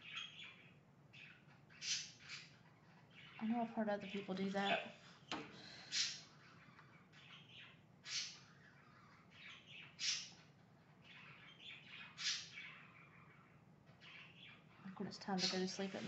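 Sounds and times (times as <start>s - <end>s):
loud high bird calls: 0.0s - 3.4s, 4.6s - 16.0s
birds chirping: 0.0s - 16.0s.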